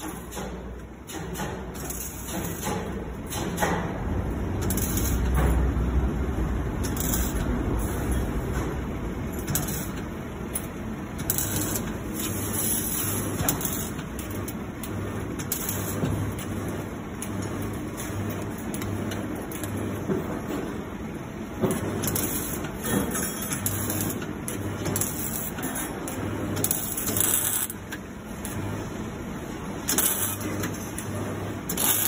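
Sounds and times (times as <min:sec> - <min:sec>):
welding arc crackling: 0:01.6 - 0:20.0, 0:21.7 - 0:22.8, 0:23.6 - 0:32.0.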